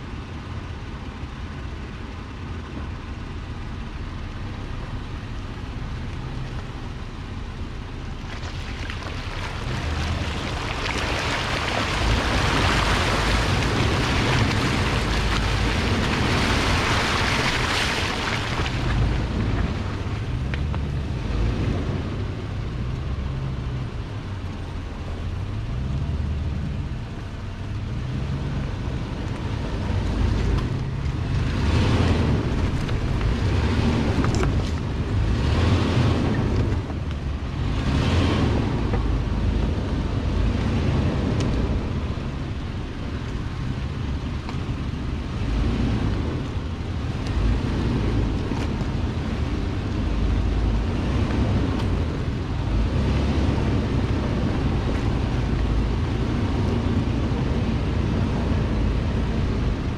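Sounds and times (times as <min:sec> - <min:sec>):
off-road vehicle engine rumbling: 0:00.0 - 0:59.9
tyres splashing through mud puddles: 0:00.1 - 0:59.9.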